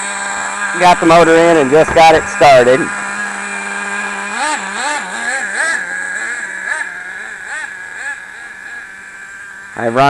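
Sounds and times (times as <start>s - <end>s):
small glow engine revving and idling: 0.0s - 10.0s.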